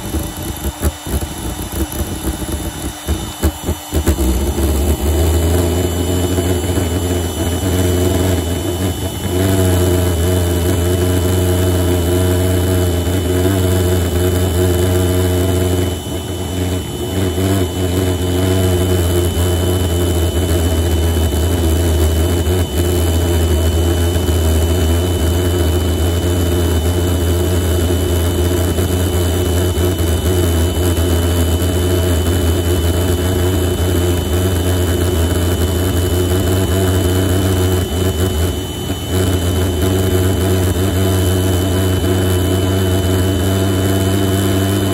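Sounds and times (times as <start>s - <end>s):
pulsejet engine droning: 0.0s - 44.9s.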